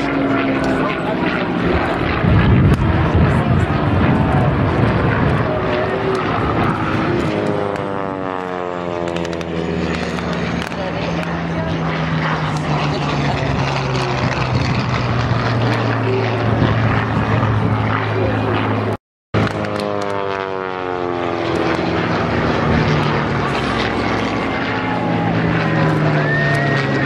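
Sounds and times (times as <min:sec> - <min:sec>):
propeller aircraft flying overhead: 0:00.0 - 0:27.0.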